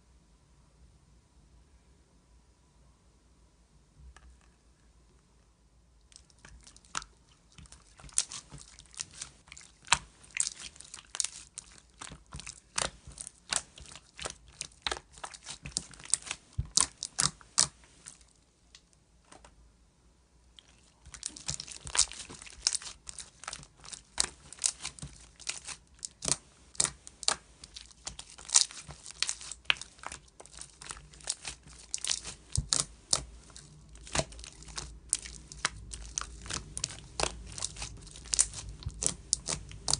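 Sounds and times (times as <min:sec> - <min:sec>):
hands squeezing slime: 0:06.1 - 0:18.8, 0:20.6 - 0:39.9
slime crackling and popping: 0:06.1 - 0:18.8, 0:20.6 - 0:39.9.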